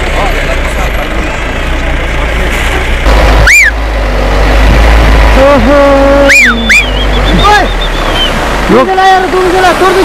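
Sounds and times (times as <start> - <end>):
truck engine rumble: 0.0 - 10.0.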